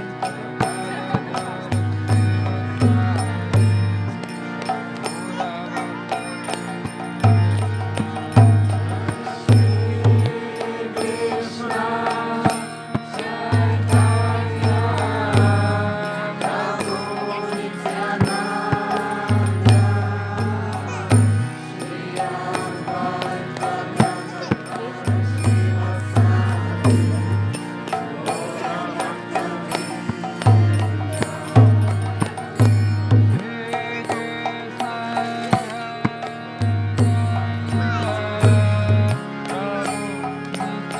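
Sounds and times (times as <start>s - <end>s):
devotional chanting: 0.0s - 40.9s.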